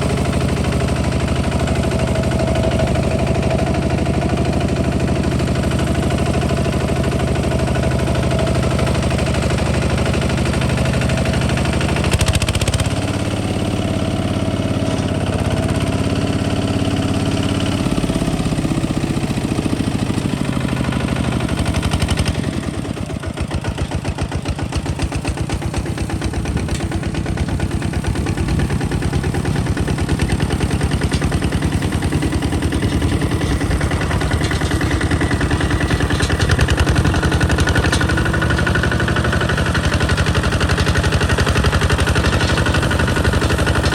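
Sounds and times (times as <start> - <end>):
diesel tractor engine chugging: 0.0 - 43.9.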